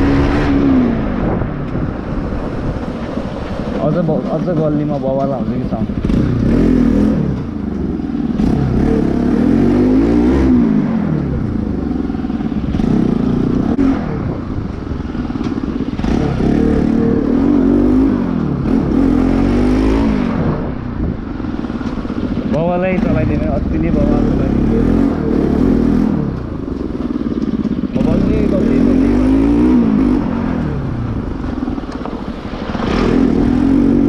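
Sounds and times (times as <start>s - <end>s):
motorcycle engine revving hard: 0.0s - 34.0s.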